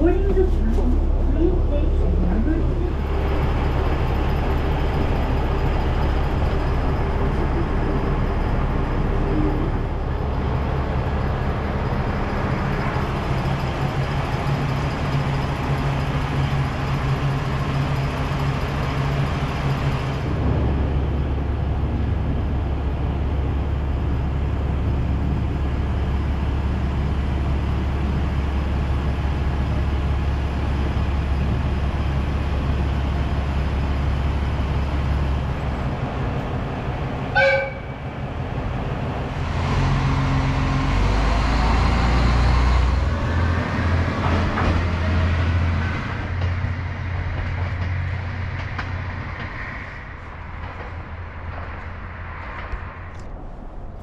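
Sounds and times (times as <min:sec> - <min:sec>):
diesel railcar engine drone: 0:00.0 - 0:54.0
train track running noise: 0:00.0 - 0:54.0.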